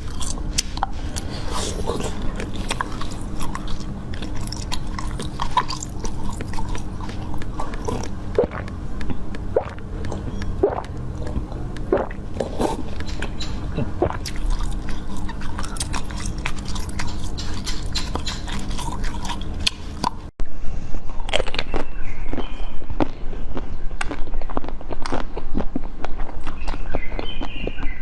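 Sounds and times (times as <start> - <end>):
mouth chewing close-up: 0.0 - 20.3, 21.1 - 28.0
mouth clicks and smacks: 0.0 - 20.3, 21.1 - 28.0.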